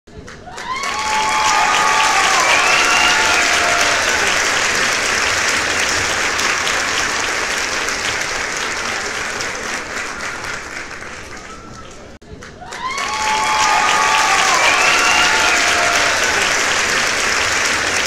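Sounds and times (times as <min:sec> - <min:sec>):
audience applauding: 0:00.2 - 0:18.0.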